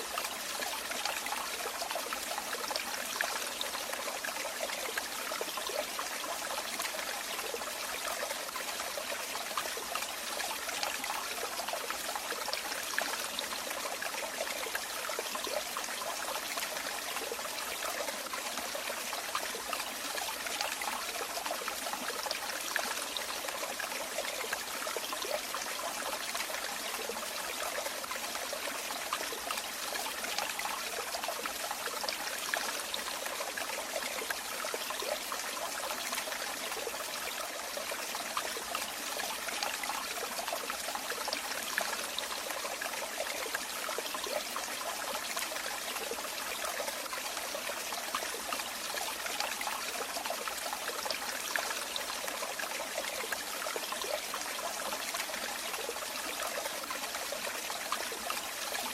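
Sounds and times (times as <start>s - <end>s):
water trickling and splashing: 0.0s - 58.9s.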